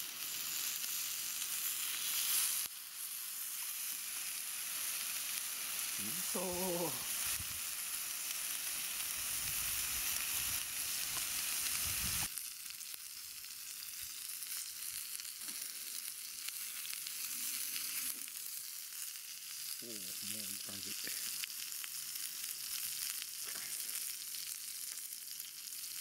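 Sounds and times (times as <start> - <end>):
meat sizzling on grill pan: 0.0 - 26.0.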